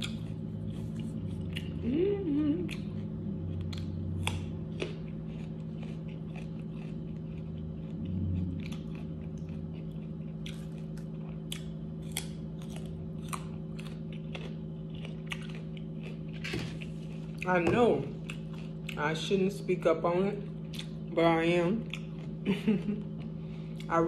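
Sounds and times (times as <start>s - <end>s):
person chewing crunchy food: 0.0s - 19.2s, 20.4s - 24.0s
steady low hum: 0.0s - 24.0s.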